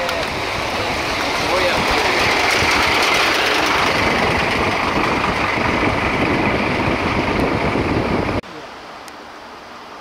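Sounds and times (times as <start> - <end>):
fire truck engine running: 0.0 - 8.4
loud rushing noise: 0.0 - 8.4.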